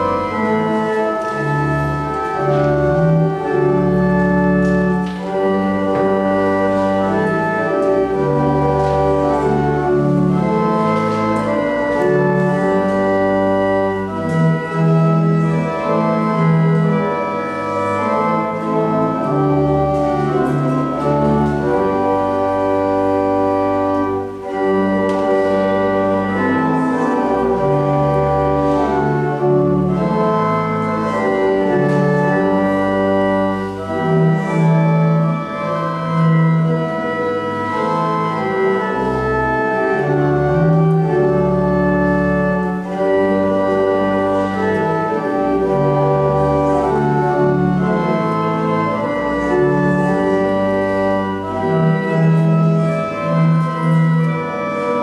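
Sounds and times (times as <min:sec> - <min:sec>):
organ playing held chords: 0:00.0 - 0:55.0.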